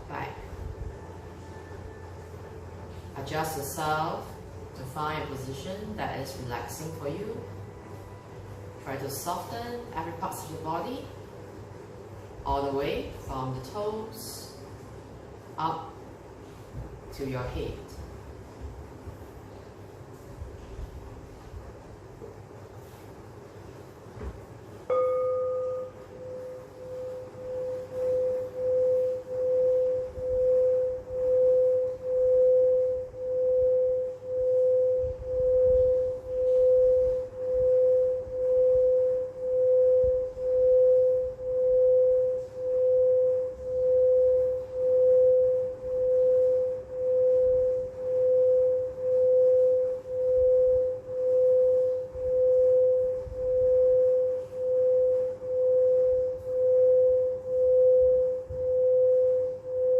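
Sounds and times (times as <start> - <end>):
singing bowl pulsing tone: 0.0 - 16.0, 24.9 - 59.9.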